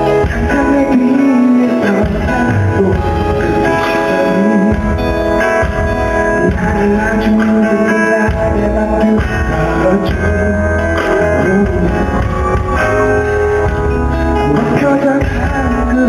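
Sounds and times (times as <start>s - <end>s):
live band playing pop ballad: 0.0s - 16.0s.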